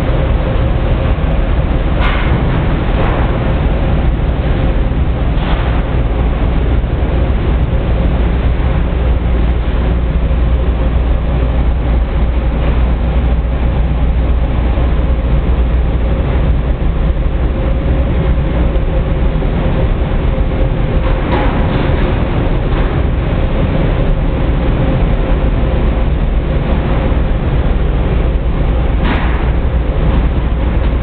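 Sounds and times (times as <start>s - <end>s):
conveyor belt running: 0.0s - 31.0s
faint steady hum: 0.0s - 31.0s.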